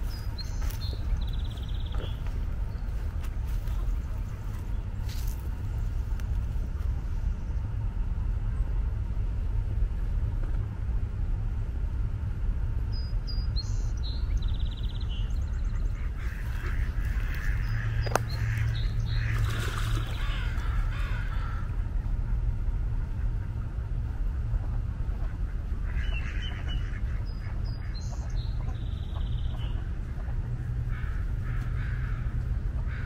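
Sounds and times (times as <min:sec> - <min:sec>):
birds calling: 0:00.0 - 0:07.7, 0:12.9 - 0:24.0, 0:24.7 - 0:33.0
low rumble: 0:00.0 - 0:33.0.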